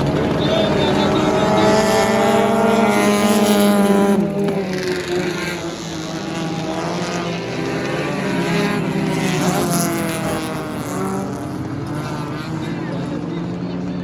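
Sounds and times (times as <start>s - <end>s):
race car engines at speed: 0.0s - 14.0s.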